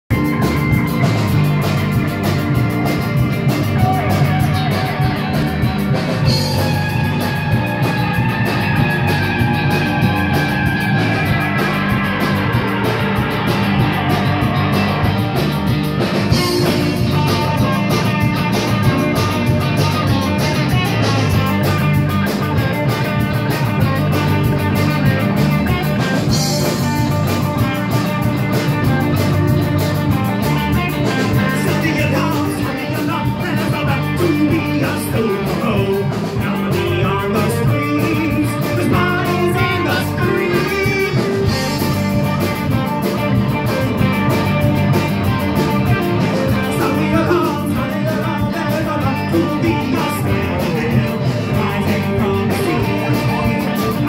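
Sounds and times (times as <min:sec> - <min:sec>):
rock band playing: 0:00.1 - 0:54.0.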